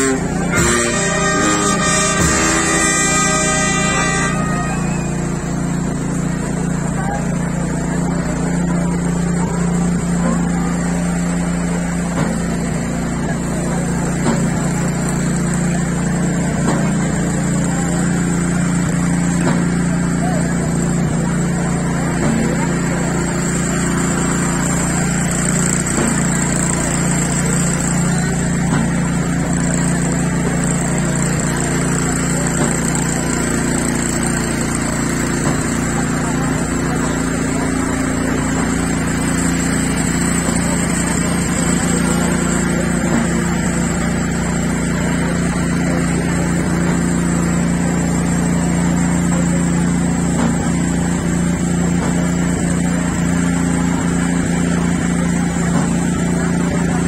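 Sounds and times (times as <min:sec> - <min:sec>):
faint voices: 0:00.0 - 0:57.0
motor engine running: 0:00.0 - 0:57.0.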